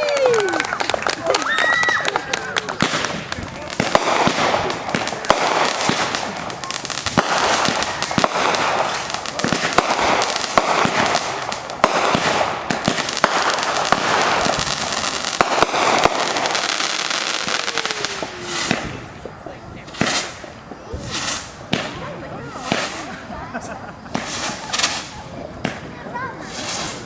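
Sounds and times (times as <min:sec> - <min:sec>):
crackling hiss: 0:00.0 - 0:27.0
fireworks bangs: 0:00.0 - 0:27.0.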